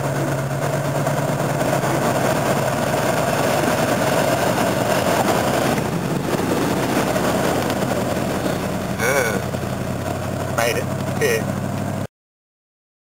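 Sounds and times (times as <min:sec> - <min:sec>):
water rushing against car: 0:00.0 - 0:12.0
car engine running under load: 0:00.0 - 0:12.1.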